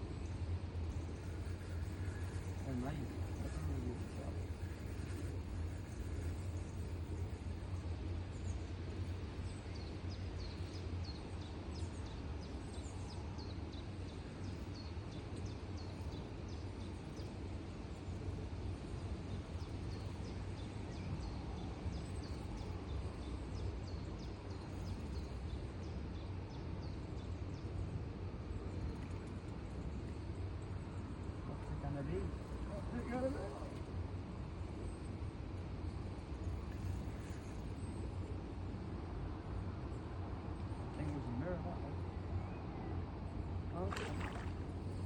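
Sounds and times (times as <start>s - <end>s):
small birds chirping: 0.1s - 45.0s.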